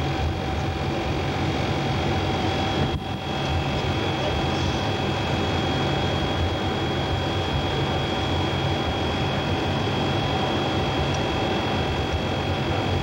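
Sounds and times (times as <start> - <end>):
aircraft cabin drone: 0.0 - 13.0
thin steady whines: 0.0 - 13.0.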